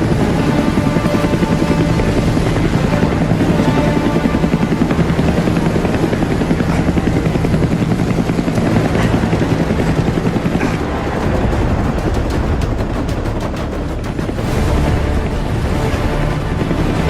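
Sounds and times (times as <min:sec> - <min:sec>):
helicopter rotor blades chopping: 0:00.0 - 0:17.0.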